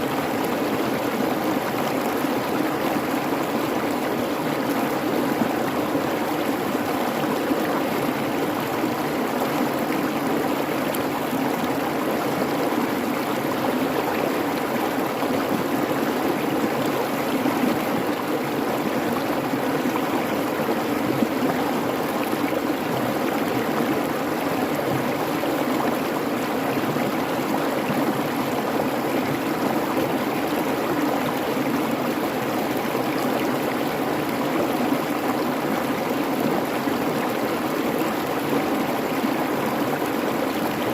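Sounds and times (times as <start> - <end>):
creek babbling: 0.0 - 40.9.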